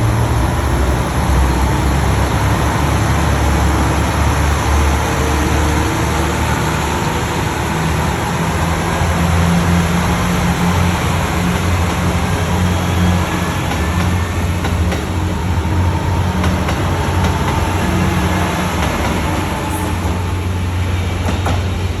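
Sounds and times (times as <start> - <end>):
diesel railcar engines droning: 0.0 - 22.0.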